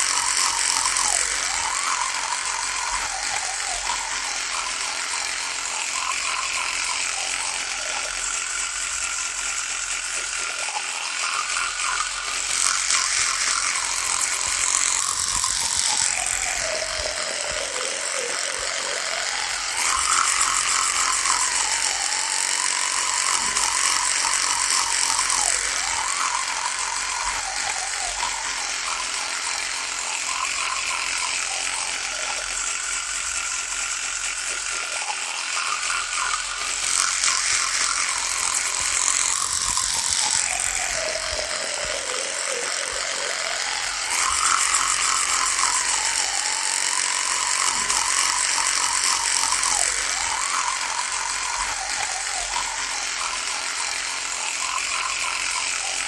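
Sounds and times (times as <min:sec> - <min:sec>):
electric toothbrush buzzing: 0:00.0 - 0:56.0.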